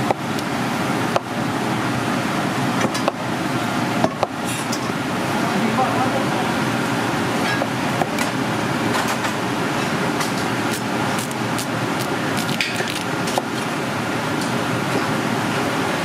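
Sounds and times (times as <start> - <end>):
loud rushing background noise: 0.0 - 16.0.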